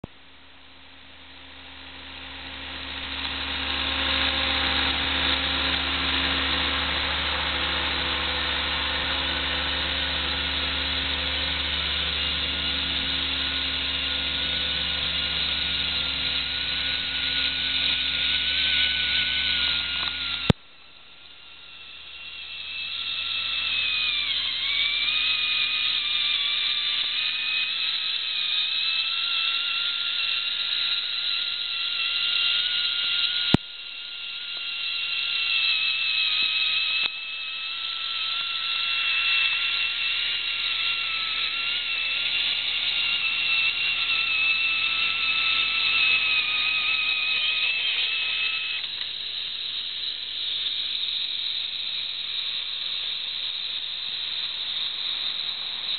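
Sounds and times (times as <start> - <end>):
low steady hum: 0.0 - 55.9
compressed air hiss with whine: 1.2 - 55.9.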